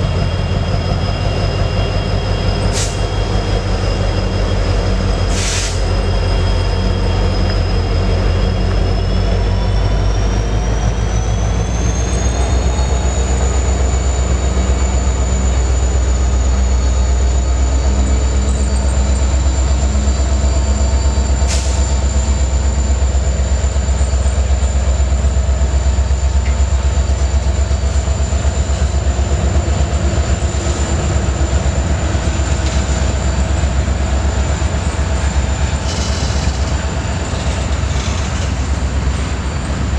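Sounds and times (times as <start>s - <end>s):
freight train wheels rumbling: 0.0s - 39.9s
high-pitched wheel squeal: 0.0s - 39.9s.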